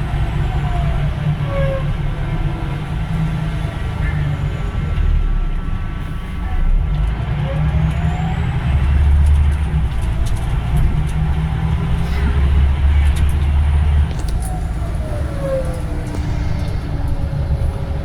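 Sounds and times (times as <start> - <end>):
bus engine drone: 0.0 - 18.0.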